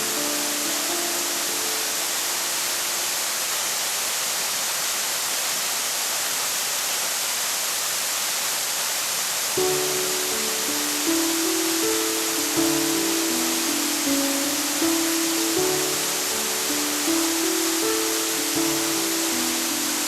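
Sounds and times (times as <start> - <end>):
waterfall pouring: 0.0 - 20.0.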